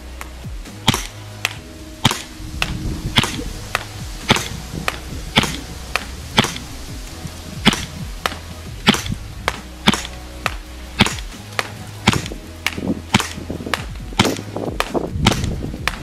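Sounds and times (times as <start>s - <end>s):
background music: 0.0s - 16.0s
airsoft gun shots: 0.8s - 6.7s, 7.6s - 16.0s.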